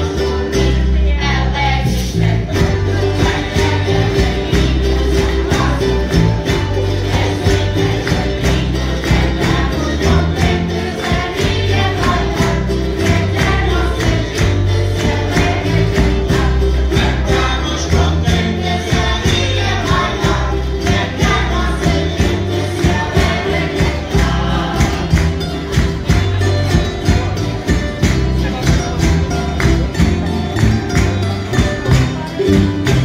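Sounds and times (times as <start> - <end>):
group singing in chorus: 0.0 - 28.0
strummed acoustic guitars: 0.0 - 33.0.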